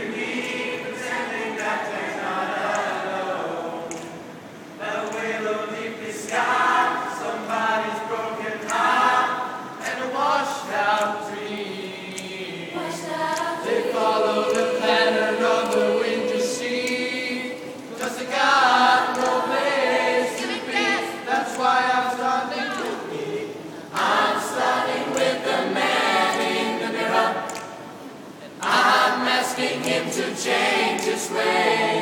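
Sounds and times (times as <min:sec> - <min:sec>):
youth choir singing a cappella: 0:00.0 - 0:32.0.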